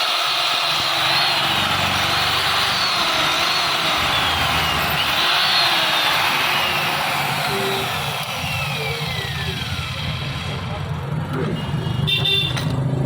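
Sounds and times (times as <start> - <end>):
electric marble cutter whining: 0.0 - 11.2.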